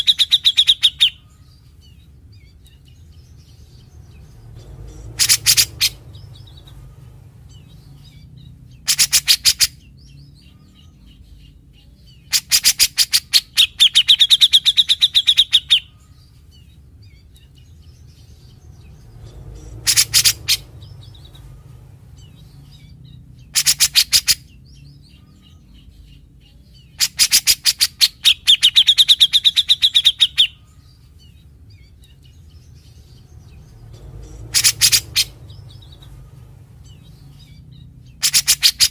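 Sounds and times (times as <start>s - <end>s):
bulbul harsh rasping calls: 0.0s - 38.9s.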